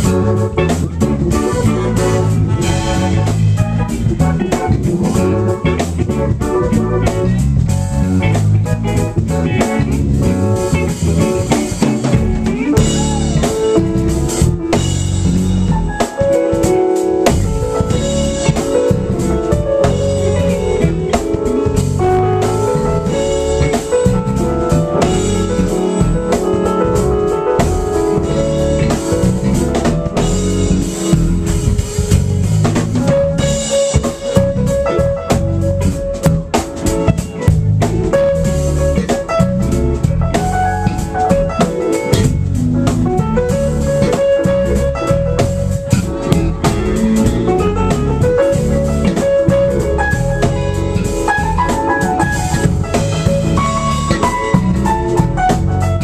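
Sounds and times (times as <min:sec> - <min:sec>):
bass drum and snare beat: 0:00.0 - 0:56.0
live band playing: 0:00.0 - 0:56.0.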